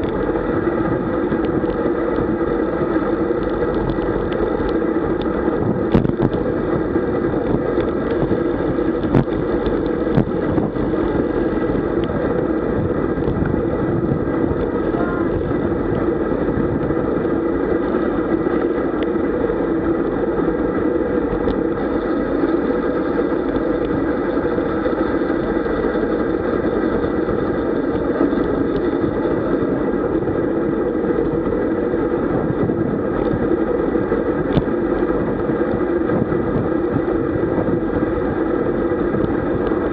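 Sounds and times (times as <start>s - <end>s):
muffled wind rush: 0.0s - 39.9s.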